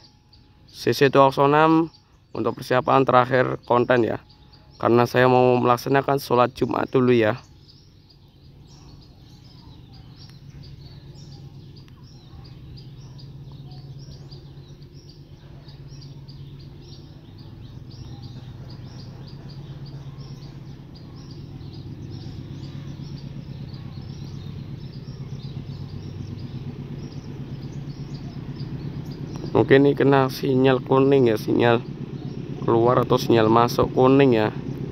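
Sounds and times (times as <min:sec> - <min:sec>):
birds chirping: 0:00.0 - 0:34.9
locomotive engine running: 0:00.0 - 0:34.9.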